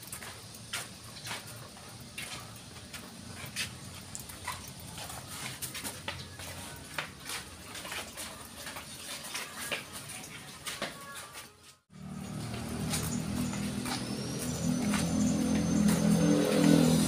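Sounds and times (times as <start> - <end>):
footsteps on hard path: 0.0 - 17.0.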